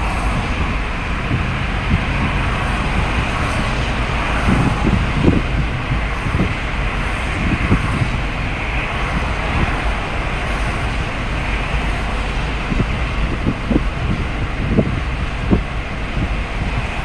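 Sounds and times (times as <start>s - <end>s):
steady rain: 0.0s - 17.0s
wind on microphone: 0.0s - 17.0s.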